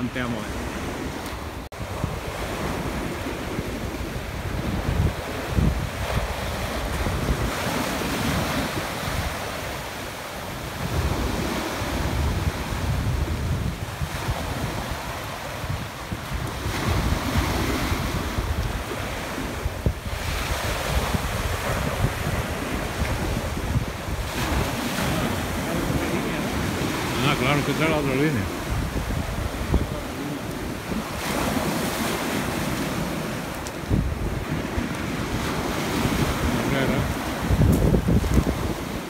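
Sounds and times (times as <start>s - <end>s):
small waves breaking on a beach: 0.0s - 39.0s
wind buffeting microphone: 0.0s - 39.0s.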